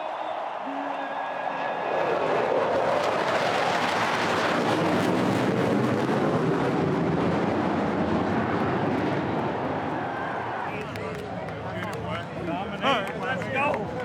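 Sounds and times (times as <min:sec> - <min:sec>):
jet aircraft flyover roar: 0:01.2 - 0:14.0.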